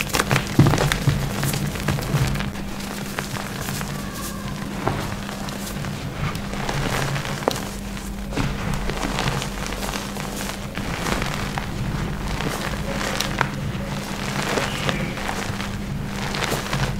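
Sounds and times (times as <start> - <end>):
hands crunching powder: 0.0 - 16.9.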